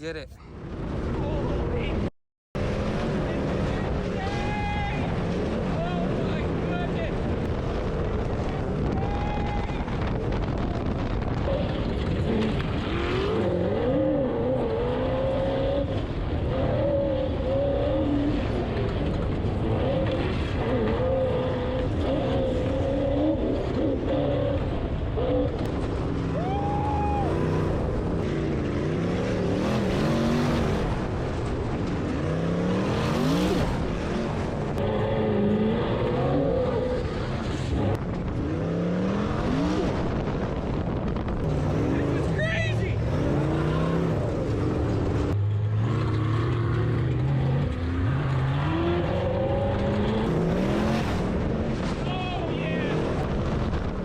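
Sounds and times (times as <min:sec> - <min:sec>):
off-road car engine revving: 0:00.0 - 0:54.0.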